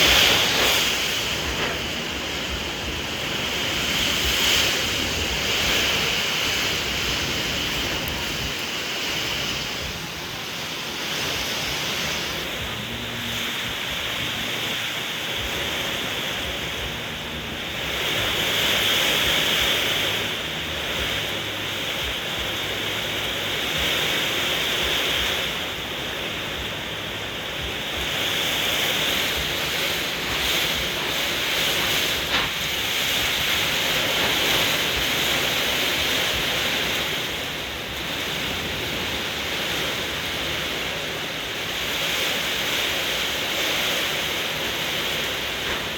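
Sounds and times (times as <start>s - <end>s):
heavy rain pouring: 0.0s - 45.9s
strong wind gusts: 0.0s - 45.9s.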